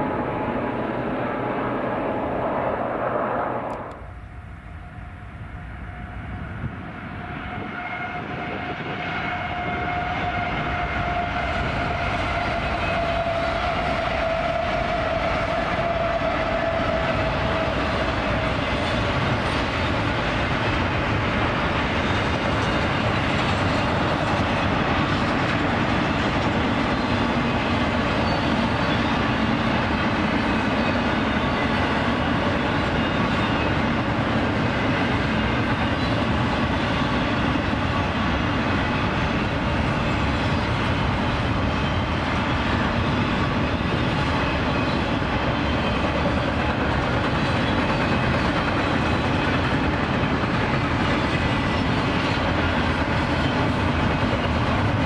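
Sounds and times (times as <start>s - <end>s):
steel train wheels on rails: 0.0s - 55.0s.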